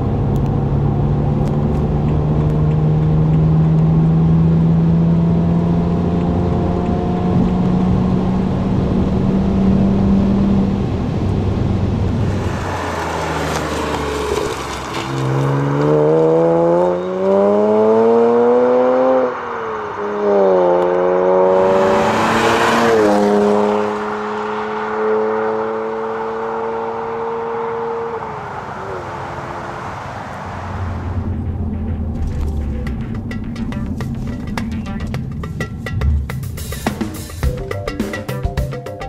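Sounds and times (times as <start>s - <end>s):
car engine accelerating hard: 0.0s - 35.3s.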